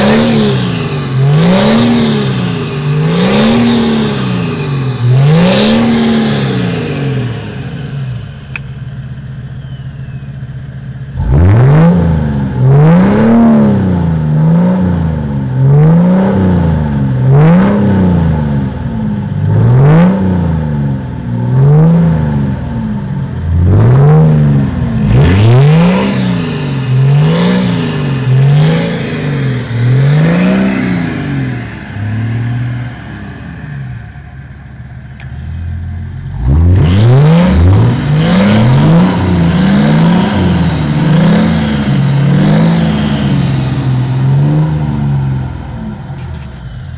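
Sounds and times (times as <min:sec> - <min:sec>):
diesel engine revving and idling: 0:00.0 - 0:46.9.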